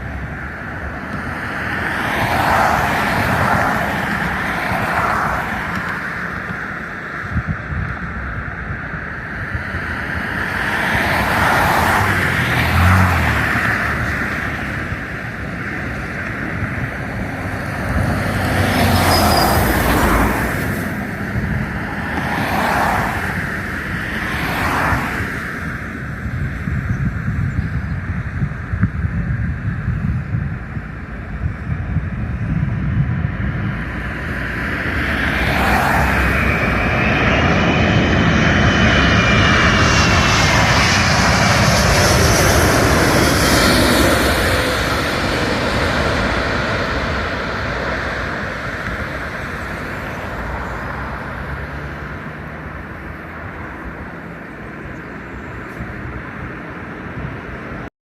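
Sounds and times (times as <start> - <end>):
jet engines passing overhead: 0.0 - 57.9
wind gusts on microphone: 0.0 - 57.9.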